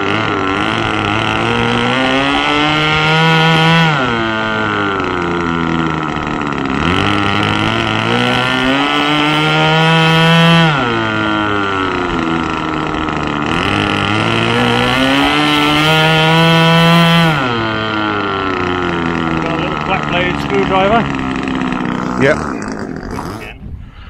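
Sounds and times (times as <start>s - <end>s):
model plane engine revving: 0.0s - 24.0s.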